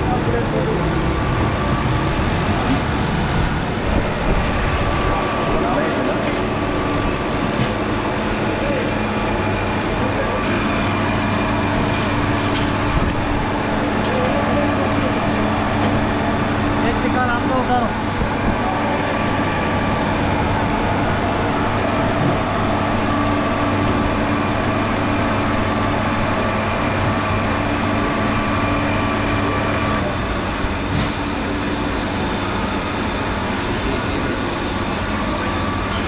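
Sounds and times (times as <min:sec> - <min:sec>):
constant mechanical hum: 0:00.0 - 0:36.0.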